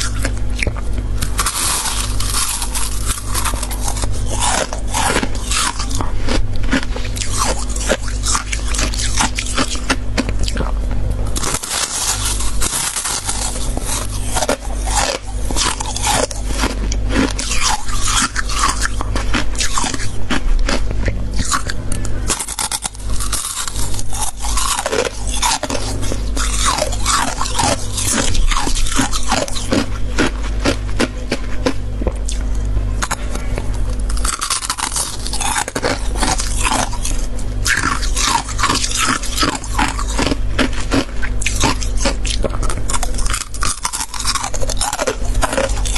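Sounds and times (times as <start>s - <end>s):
frost crunching while chewed: 0.0s - 45.9s
steady low hum: 0.0s - 45.9s.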